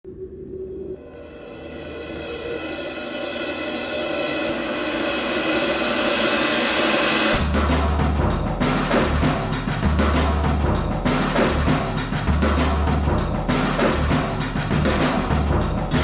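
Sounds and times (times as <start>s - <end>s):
drum-driven music with heavy bass: 2.5s - 16.0s.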